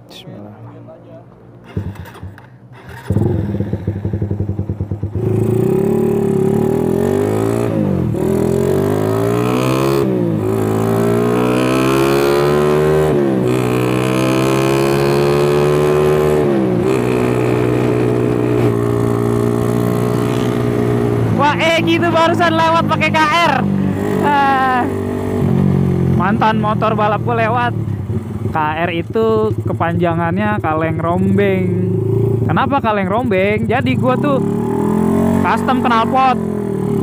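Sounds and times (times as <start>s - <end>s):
motorcycle engine accelerating: 1.6s - 37.0s.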